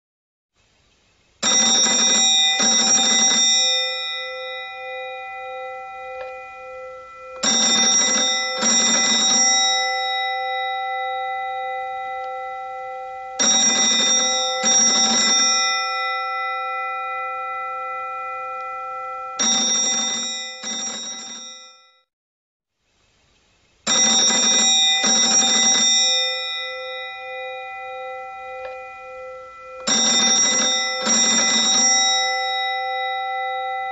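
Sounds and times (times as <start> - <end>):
bell-like phone ringtone chime: 1.4 - 22.1, 23.9 - 33.9.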